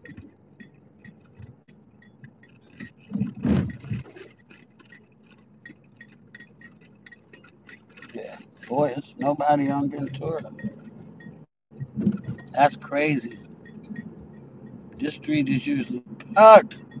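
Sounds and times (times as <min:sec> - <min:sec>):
car cabin ride noise: 0:00.0 - 0:17.0
light regular ticking: 0:00.0 - 0:17.0.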